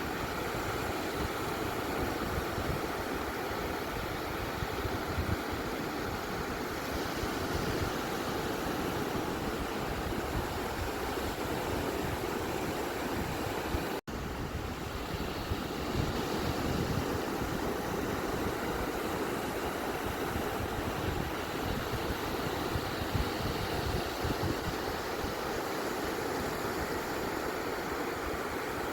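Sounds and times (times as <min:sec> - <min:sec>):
beach waves washing in: 0:00.0 - 0:28.9.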